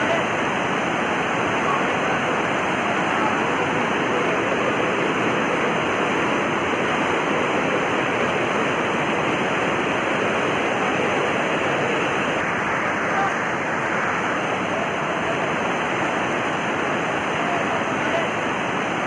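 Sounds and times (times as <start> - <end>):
rush of floodwater in river: 0.0 - 19.0.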